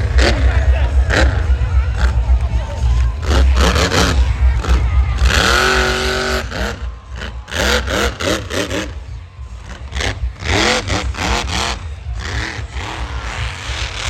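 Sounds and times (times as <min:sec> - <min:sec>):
monster truck engines revving: 0:00.0 - 0:14.0.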